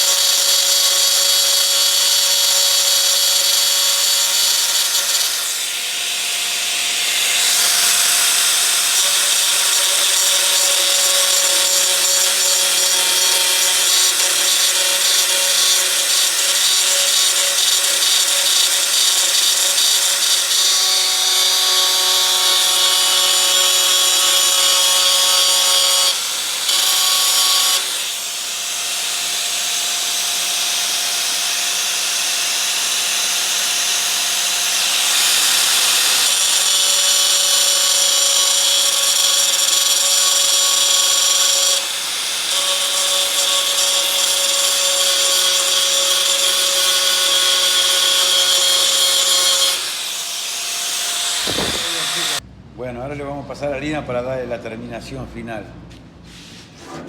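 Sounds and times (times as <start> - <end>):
angle grinder grinding metal: 0.0 - 52.4.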